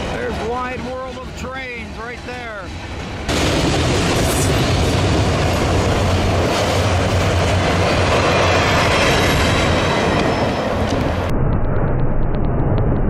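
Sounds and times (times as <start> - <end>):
freight train wheels rumbling: 0.0 - 11.3.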